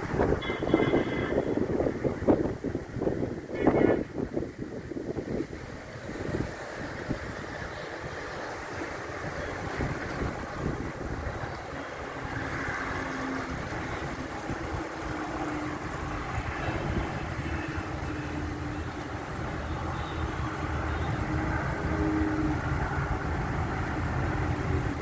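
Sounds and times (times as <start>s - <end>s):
strong gusty wind on microphone: 0.0s - 25.0s.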